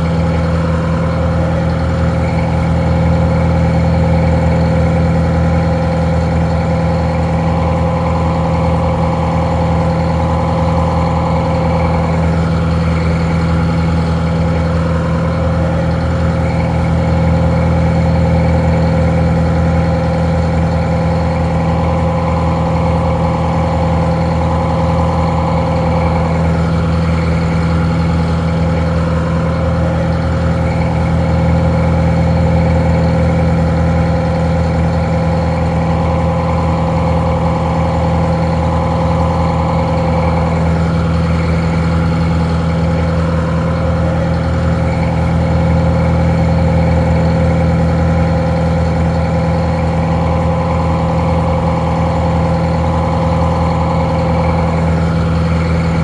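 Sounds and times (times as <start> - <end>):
muffled diesel engine idling: 0.0 - 56.0.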